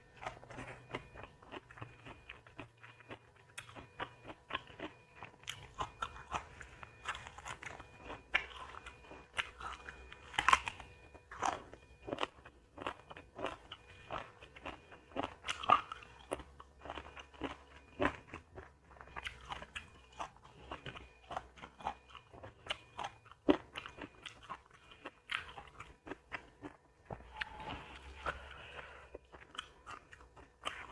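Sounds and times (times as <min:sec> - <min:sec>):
person chewing crunchy food: 0:00.0 - 0:30.9.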